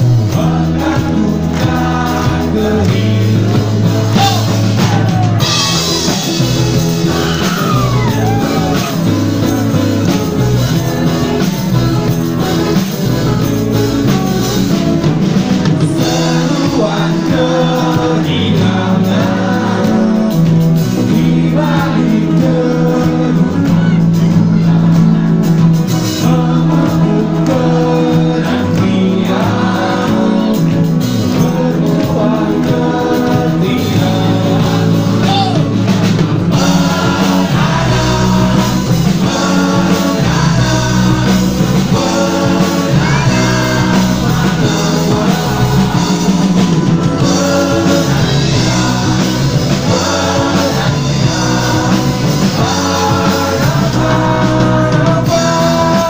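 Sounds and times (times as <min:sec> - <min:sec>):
person singing: 0:00.0 - 0:35.9, 0:36.5 - 0:56.0
acoustic guitar: 0:00.0 - 0:56.0
drums: 0:00.0 - 0:56.0
second guitar: 0:00.0 - 0:56.0.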